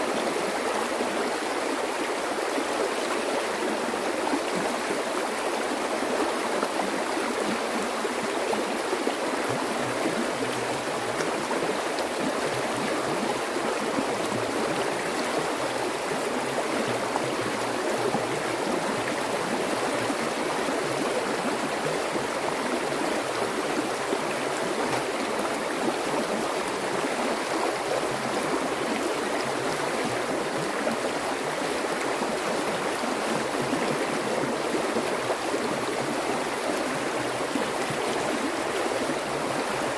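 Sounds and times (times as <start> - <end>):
stream running and gurgling: 0.0 - 39.9.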